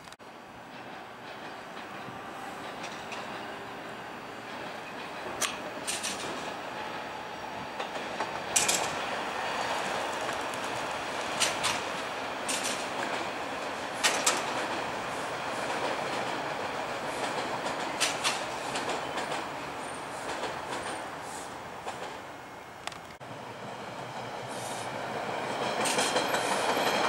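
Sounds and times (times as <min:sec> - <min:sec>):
wheels clacking over track joints: 0:00.0 - 0:03.6, 0:04.4 - 0:06.6, 0:07.8 - 0:21.0, 0:21.8 - 0:23.2, 0:25.4 - 0:27.0
subway train wheels rumbling: 0:00.0 - 0:27.0.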